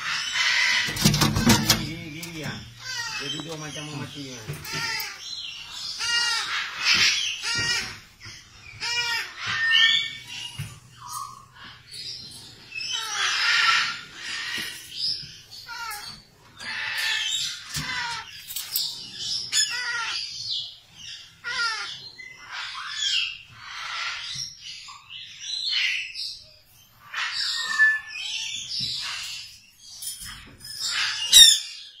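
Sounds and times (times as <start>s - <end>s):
parrot chicks squawking: 0.0s - 26.1s, 27.0s - 29.6s, 30.2s - 32.0s.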